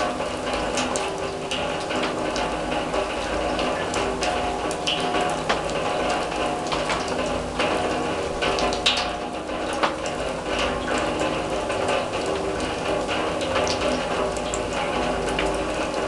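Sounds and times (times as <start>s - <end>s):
rain patter: 0.0s - 16.0s
raindrops plinking on metal drum: 0.0s - 16.0s.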